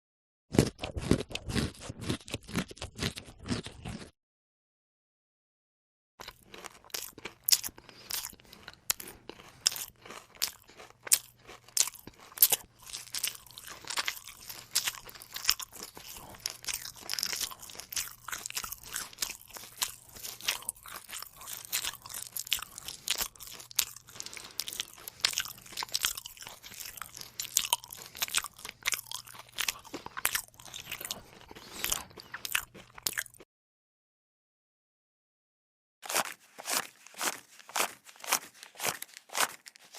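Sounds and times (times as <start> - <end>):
chewing crunchy food: 0.5 - 4.2, 6.2 - 33.5, 36.0 - 39.9.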